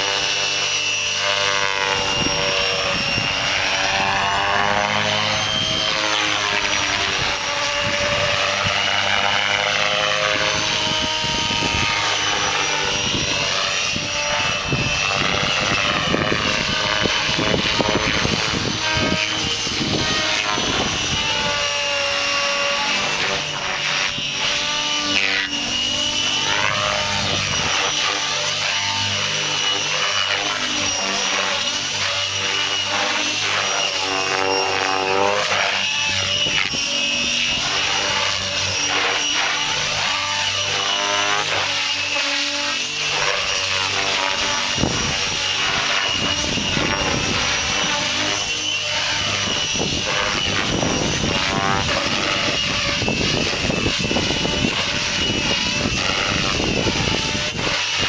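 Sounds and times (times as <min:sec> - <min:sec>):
rc helicopter rotor and motor whine: 0:00.0 - 0:58.0.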